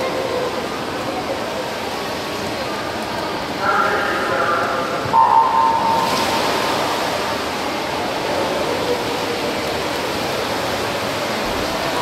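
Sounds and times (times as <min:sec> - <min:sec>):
water splashing in indoor pool: 0:00.0 - 0:12.0.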